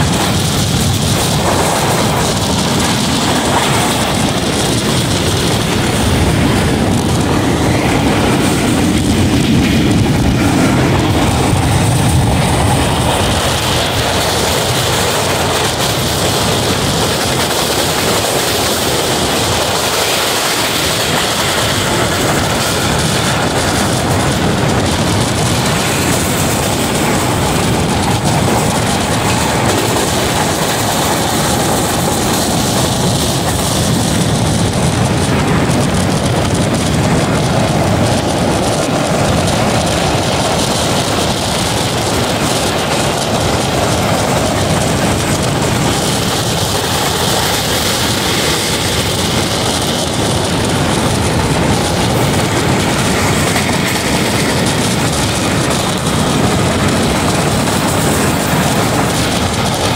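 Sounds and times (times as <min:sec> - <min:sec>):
train wheel and rail noise: 0:00.0 - 0:59.9.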